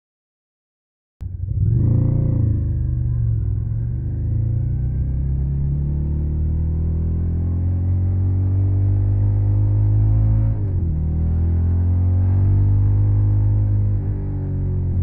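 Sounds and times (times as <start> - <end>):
motorcycle engine revving: 1.2 - 15.0.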